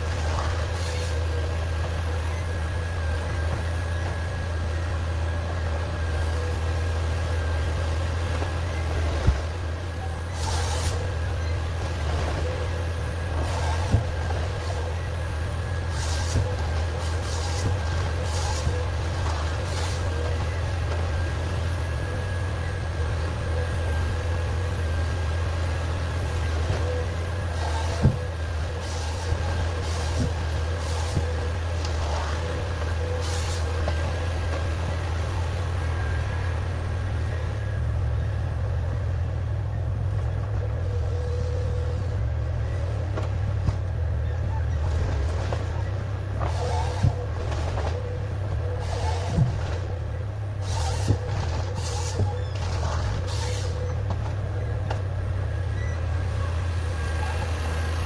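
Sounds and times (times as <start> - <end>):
heavy machine engine droning: 0.0 - 58.0.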